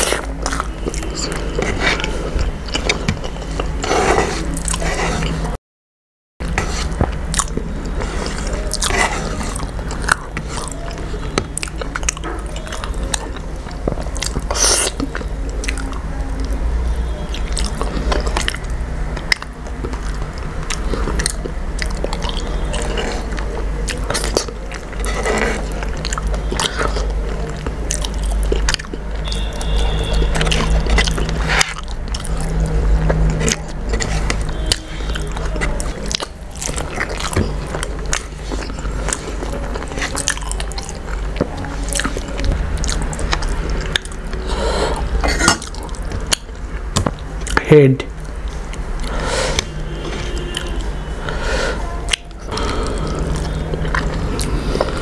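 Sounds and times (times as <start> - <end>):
person chewing food: 0.0 - 5.6, 6.4 - 55.0.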